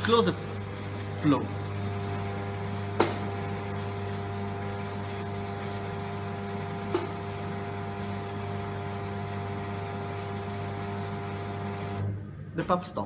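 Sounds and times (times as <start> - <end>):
electric pump motor humming: 0.0 - 12.7.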